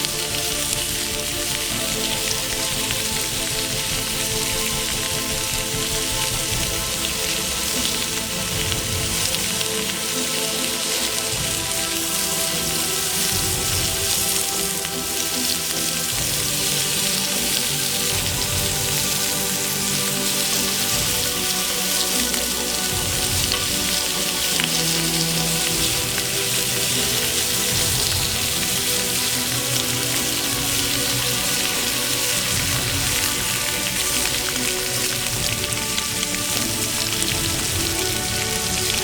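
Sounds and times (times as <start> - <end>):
background music sustained notes: 0.0 - 39.0
dense hiss: 0.0 - 39.0.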